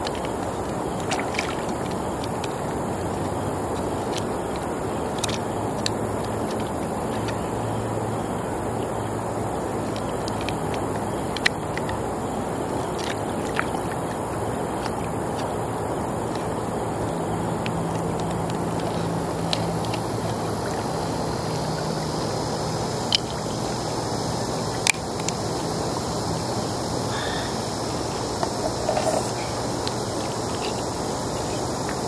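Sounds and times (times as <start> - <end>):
river water flowing: 0.0 - 32.0.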